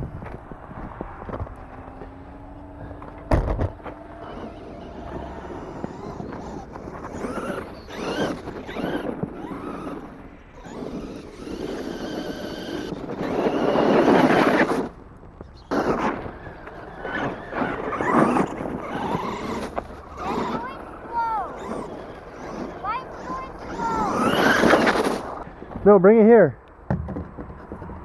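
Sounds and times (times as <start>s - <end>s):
tires spinning in snow: 0.0s - 26.0s
rc truck motor whining: 1.2s - 25.8s.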